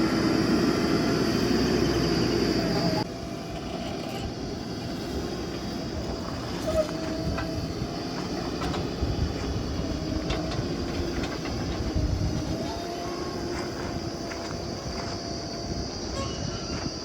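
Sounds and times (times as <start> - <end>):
diesel engine running under load: 0.0 - 17.0
hydraulic whine: 0.0 - 17.0.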